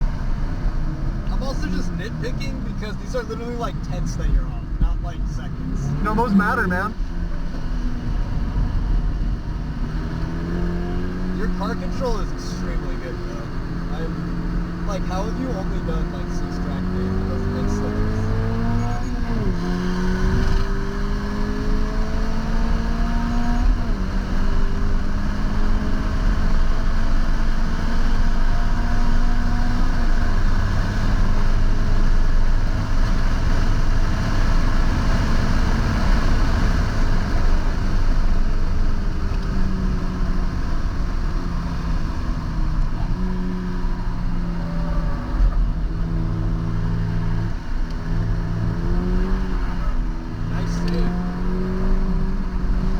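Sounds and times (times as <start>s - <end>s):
car engine revving: 0.0s - 52.9s
road and tyre noise: 0.0s - 52.9s.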